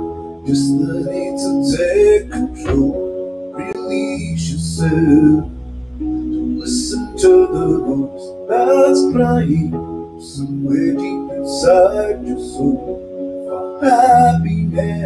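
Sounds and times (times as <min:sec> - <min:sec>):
held keyboard chords: 0:00.0 - 0:15.0.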